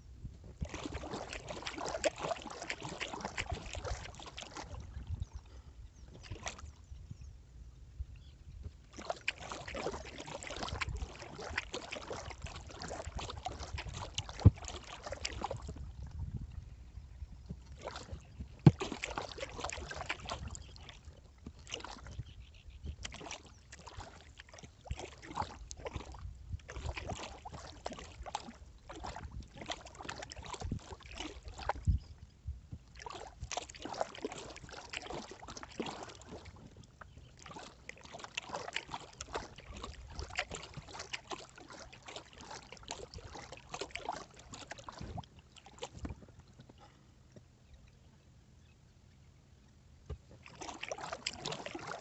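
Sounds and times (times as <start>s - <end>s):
paddle splashing in water: 0.4s - 6.9s, 8.6s - 48.2s, 50.0s - 52.0s.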